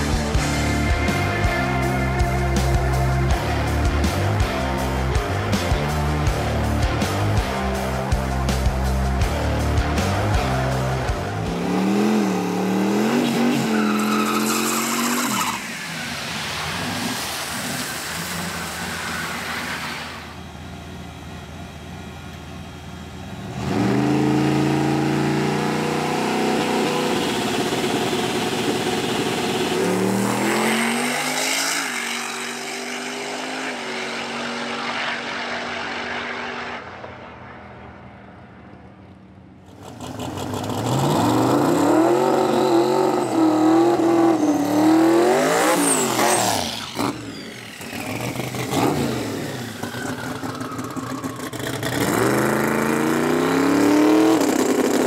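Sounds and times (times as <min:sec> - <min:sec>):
race car engines revving: 0:00.0 - 0:21.6, 0:23.1 - 0:55.0.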